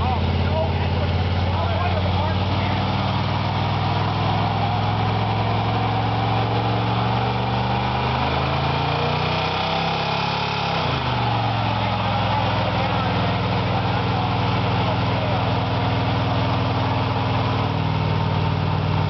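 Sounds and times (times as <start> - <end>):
truck engine running under load: 0.0 - 19.0.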